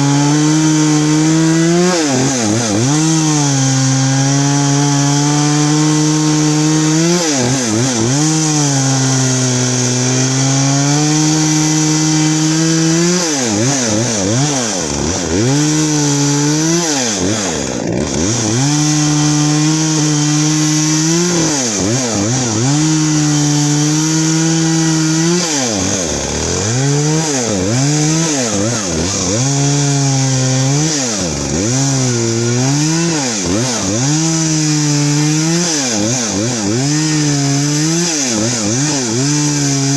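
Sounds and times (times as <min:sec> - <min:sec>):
chainsaw sawing logs: 0:00.0 - 0:39.9.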